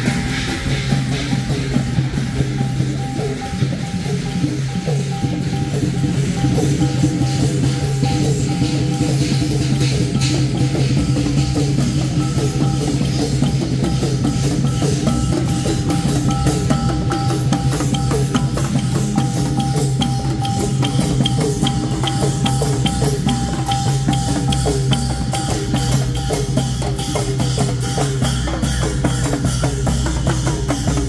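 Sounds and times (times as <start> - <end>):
drums beating a driving rhythm: 0.0 - 31.0
small hand cymbals: 0.0 - 31.0.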